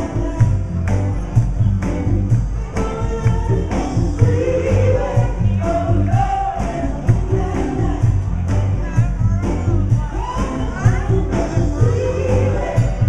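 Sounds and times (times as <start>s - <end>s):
band playing a song: 0.0s - 13.0s
heavy bass line: 0.0s - 13.0s
steady drumbeat: 0.0s - 13.0s.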